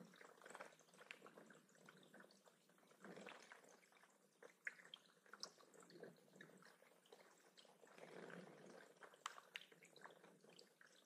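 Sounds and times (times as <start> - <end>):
faint waterfall trickle: 0.0 - 11.0
water drips and small splashes: 0.0 - 11.0.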